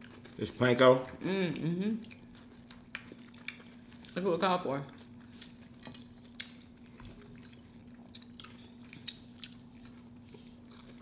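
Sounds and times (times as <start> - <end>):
people chewing crunchy food: 0.0 - 11.0.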